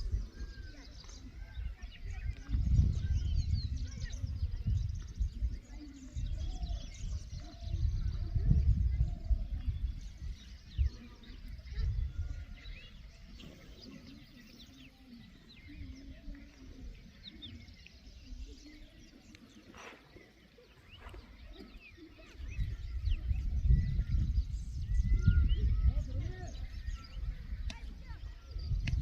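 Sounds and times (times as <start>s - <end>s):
wild birds chirping: 0.0s - 29.0s.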